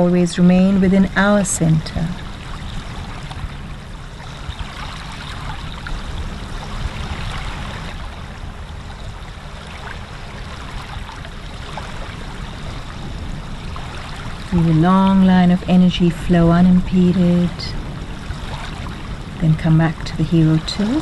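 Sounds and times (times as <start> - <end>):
stream water rushing: 0.9 - 21.0.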